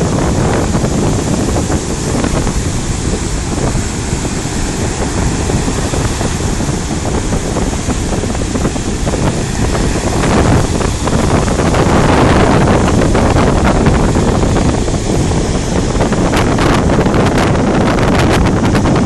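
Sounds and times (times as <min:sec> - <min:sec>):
sea waves washing onto beach: 0:00.0 - 0:19.0
wind buffeting microphone: 0:00.0 - 0:19.0.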